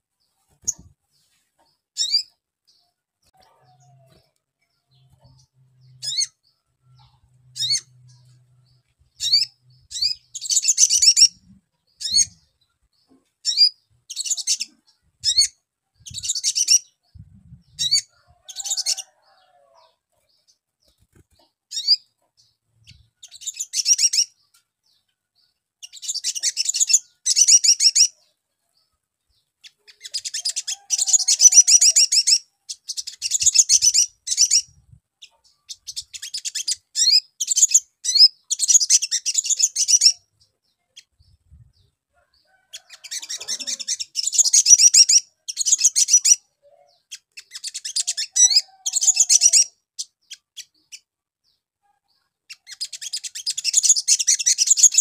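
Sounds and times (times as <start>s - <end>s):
bird chirps and twittering trills: 0.2s - 55.0s.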